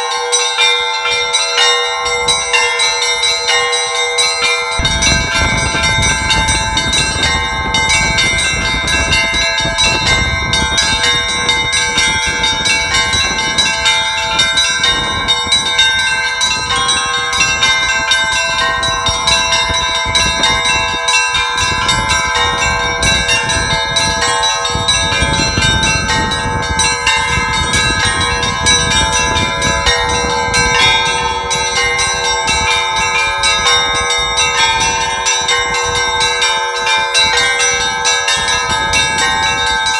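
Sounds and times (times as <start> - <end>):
church bells pealing: 0.0 - 39.9
low bell ringing: 0.0 - 39.9.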